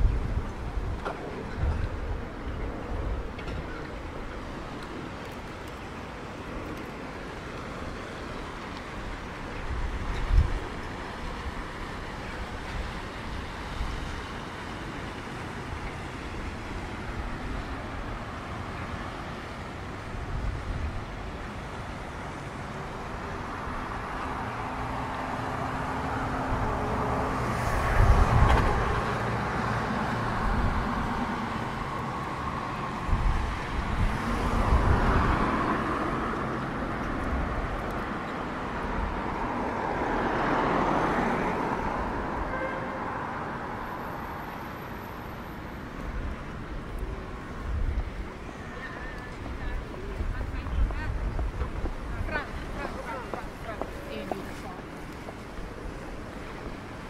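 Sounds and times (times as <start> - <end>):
cars passing: 0.0 - 57.0
road traffic hum: 0.0 - 57.0.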